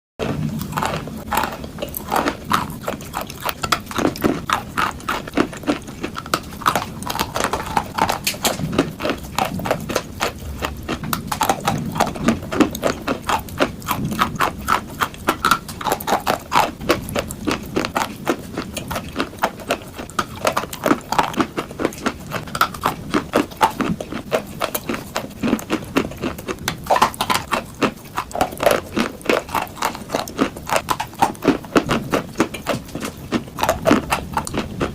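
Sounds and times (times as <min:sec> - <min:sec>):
chalk being chewed: 0:00.2 - 0:34.9.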